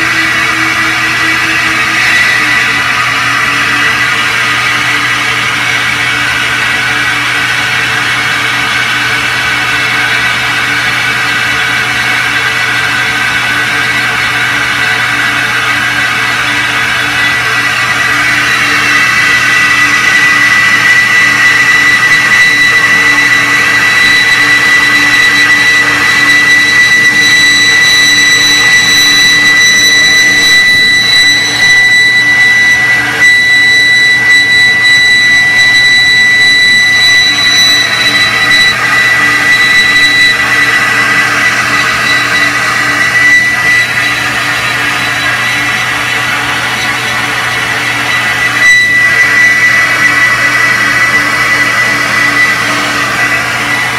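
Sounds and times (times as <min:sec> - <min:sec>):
high motor whine: 0:00.0 - 0:53.9.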